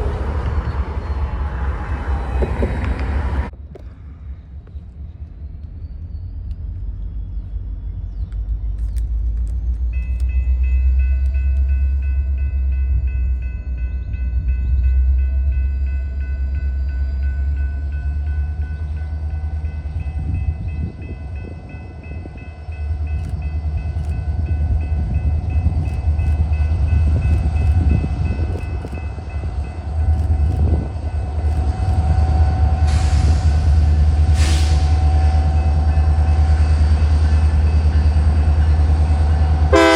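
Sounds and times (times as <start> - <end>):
locomotive rumbling: 0.0 - 39.9.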